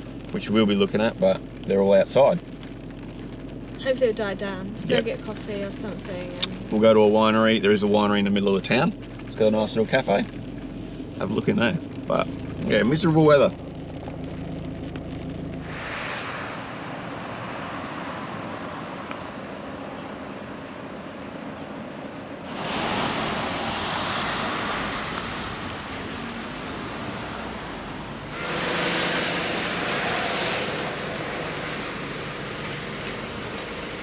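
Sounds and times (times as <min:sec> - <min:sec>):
traffic hiss on wet road: 0:00.0 - 0:34.0
vehicles passing: 0:00.0 - 0:34.0.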